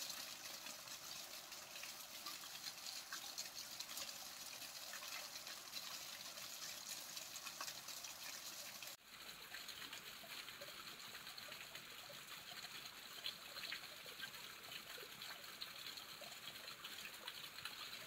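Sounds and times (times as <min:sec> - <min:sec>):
running water trickling: 0:00.0 - 0:18.0.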